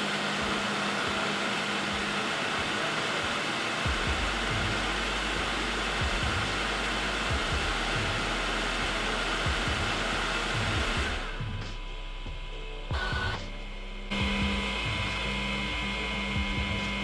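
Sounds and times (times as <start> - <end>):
background music with steady beat: 0.0 - 17.0
printer fans running: 0.0 - 17.0.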